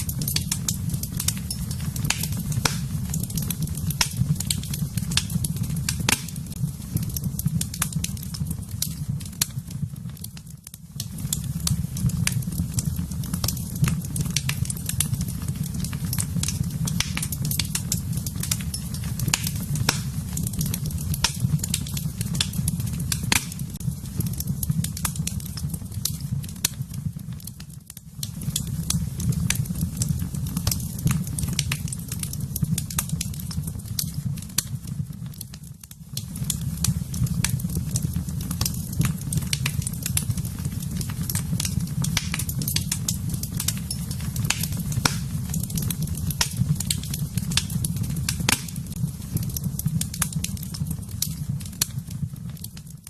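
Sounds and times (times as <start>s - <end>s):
fire low rumble: 0.0s - 53.0s
fireplace fire crackling: 0.0s - 53.0s.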